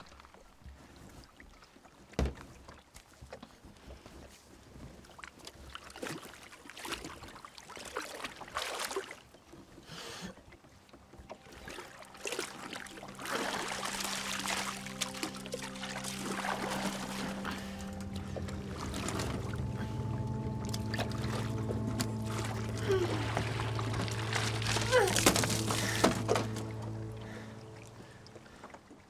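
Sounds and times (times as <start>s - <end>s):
water sloshing against boat: 0.6s - 29.0s.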